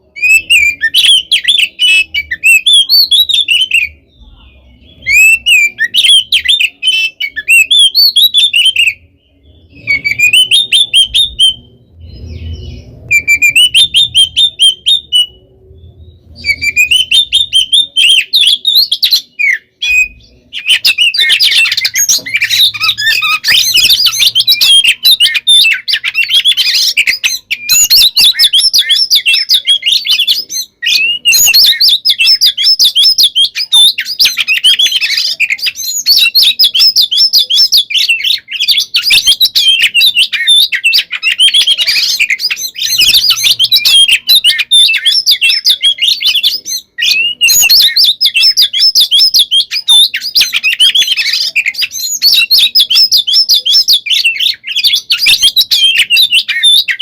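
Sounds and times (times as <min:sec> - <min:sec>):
bird singing loudly: 0:00.0 - 0:57.0.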